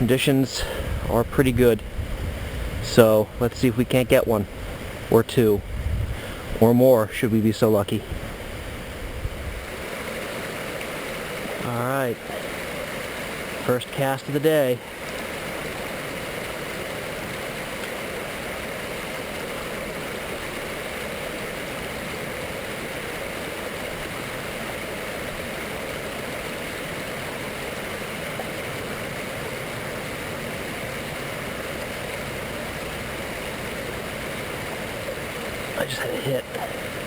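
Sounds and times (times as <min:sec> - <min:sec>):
stream water running: 0:00.0 - 0:37.0.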